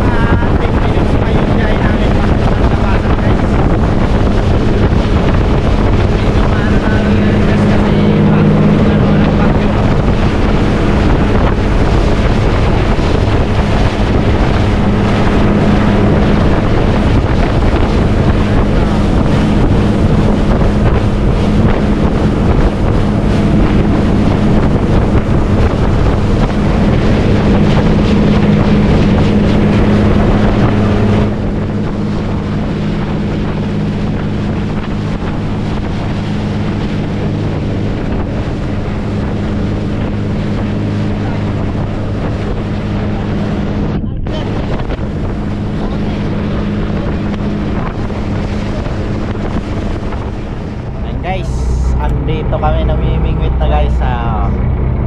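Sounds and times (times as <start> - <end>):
motorboat engine running: 0.0 - 55.0
water rushing: 0.0 - 55.0
wind noise on microphone: 0.0 - 55.0.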